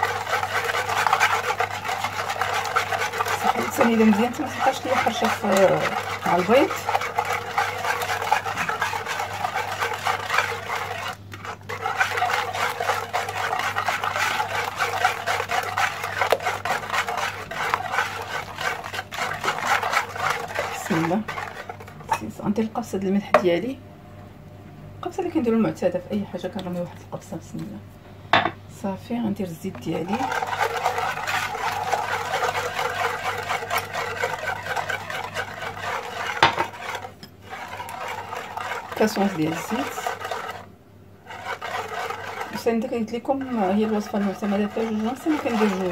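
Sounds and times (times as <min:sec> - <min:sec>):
whisk scraping and clicking in dish: 0:00.0 - 0:22.8, 0:26.5 - 0:26.8, 0:29.7 - 0:45.9.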